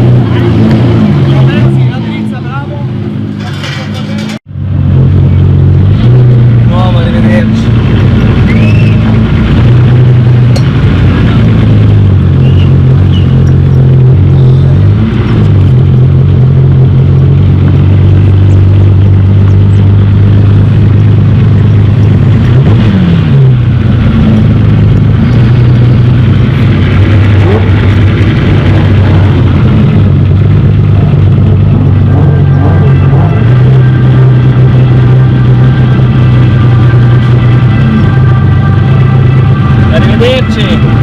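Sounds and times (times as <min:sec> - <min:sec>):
car engine revving: 0:00.0 - 0:41.0
loud car engine idling: 0:00.0 - 0:41.0.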